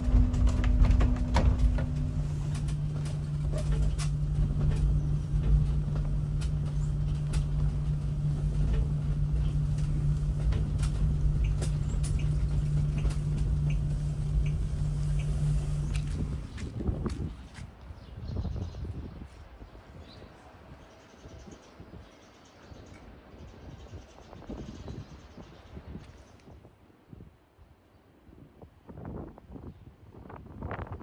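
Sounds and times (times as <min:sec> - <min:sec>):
electric bus hum: 0:00.0 - 0:26.3
road rumble: 0:00.0 - 0:27.6.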